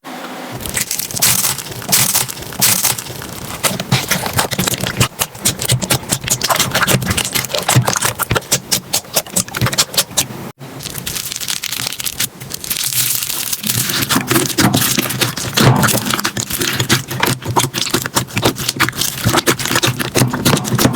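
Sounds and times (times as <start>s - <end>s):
slime crackling and popping: 0.6s - 20.9s.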